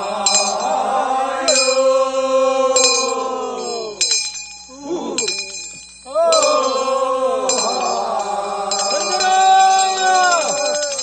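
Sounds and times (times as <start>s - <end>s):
hand bell ringing: 0.0s - 0.8s, 1.5s - 2.0s, 2.8s - 11.0s
group of men singing: 0.0s - 4.1s, 6.1s - 11.0s.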